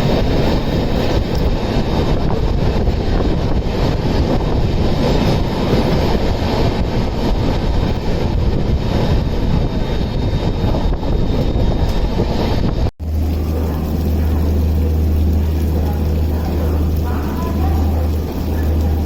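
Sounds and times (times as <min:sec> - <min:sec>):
passenger train rumbling: 0:00.0 - 0:19.0.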